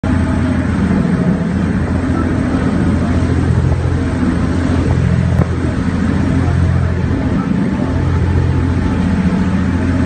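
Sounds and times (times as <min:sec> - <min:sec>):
motorboat engine running: 0:00.0 - 0:10.0
rushing water noise: 0:00.0 - 0:10.0.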